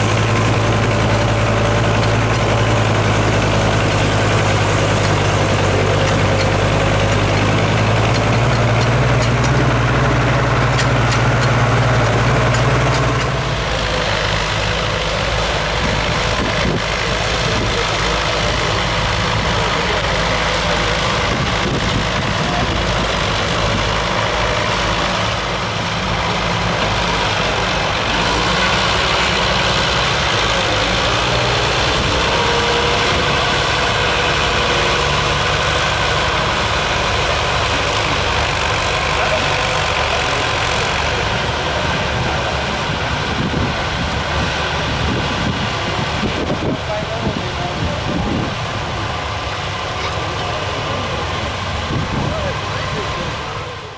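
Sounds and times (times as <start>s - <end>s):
engine running at low revs: 0.0s - 53.9s.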